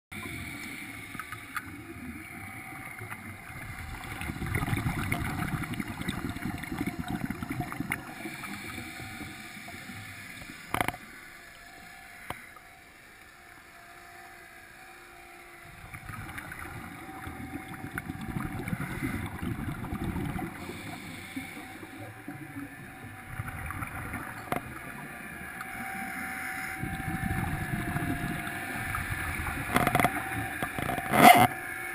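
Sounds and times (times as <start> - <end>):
underwater rumble and churn: 0.1 - 31.9.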